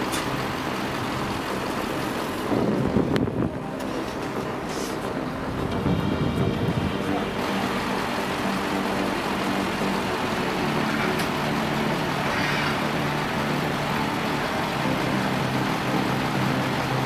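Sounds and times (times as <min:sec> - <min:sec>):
vehicle engine running: 0:00.0 - 0:17.0
wind or road noise hiss: 0:00.0 - 0:17.0.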